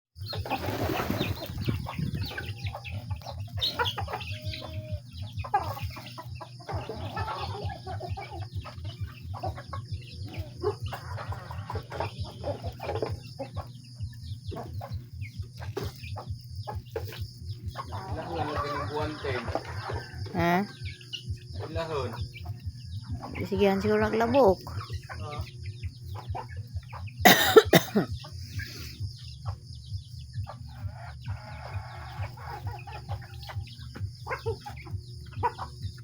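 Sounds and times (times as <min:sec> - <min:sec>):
chickens clucking: 0:00.2 - 0:36.0.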